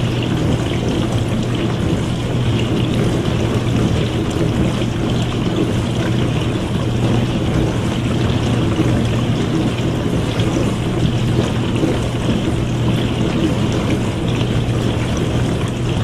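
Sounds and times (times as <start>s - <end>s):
dishwasher motor hum: 0.0s - 16.0s
water spraying and sloshing: 0.0s - 16.0s.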